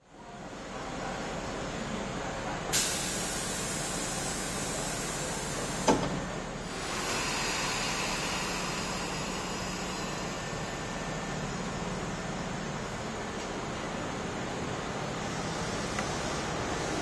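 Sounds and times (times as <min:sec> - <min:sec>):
train equipment humming: 0:02.7 - 0:17.0.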